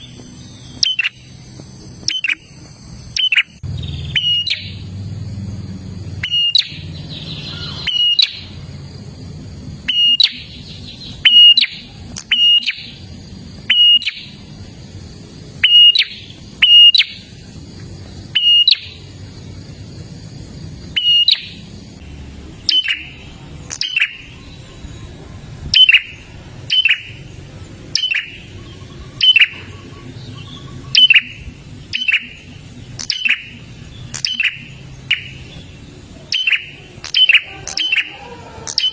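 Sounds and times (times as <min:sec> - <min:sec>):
bird sharp chirps: 0:00.0 - 0:04.9, 0:06.1 - 0:08.7, 0:09.8 - 0:14.6, 0:15.6 - 0:19.7, 0:20.9 - 0:21.7, 0:22.4 - 0:38.9
low steady hum: 0:00.0 - 0:38.9.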